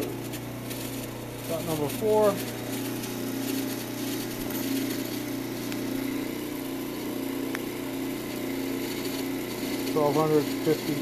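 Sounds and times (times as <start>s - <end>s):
wood lathe humming: 0.0s - 11.0s.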